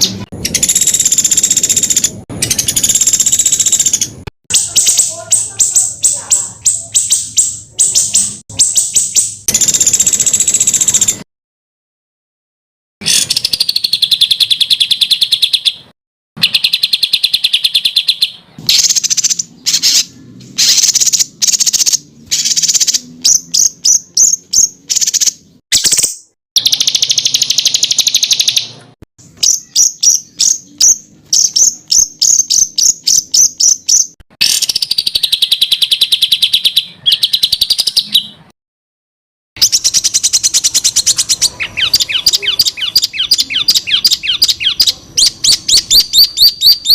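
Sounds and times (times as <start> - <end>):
songbird trilling: 0.0 - 11.2, 13.0 - 28.7, 29.3 - 38.4, 39.6 - 46.9.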